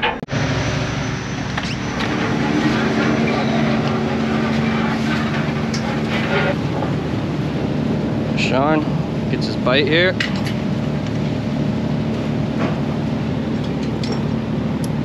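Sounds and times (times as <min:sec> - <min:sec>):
boat engine droning: 0:00.0 - 0:15.0
steady hum: 0:00.0 - 0:15.0.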